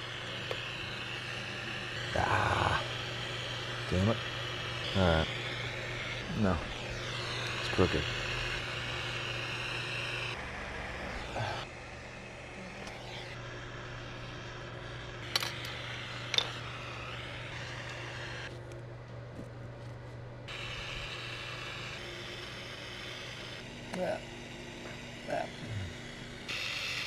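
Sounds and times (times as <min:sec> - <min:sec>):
gas torch hissing: 0:00.0 - 0:18.5, 0:20.5 - 0:27.0.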